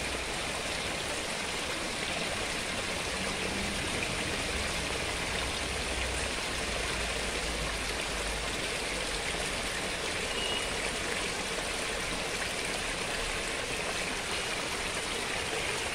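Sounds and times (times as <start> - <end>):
water pouring over rocks: 0.0 - 15.9.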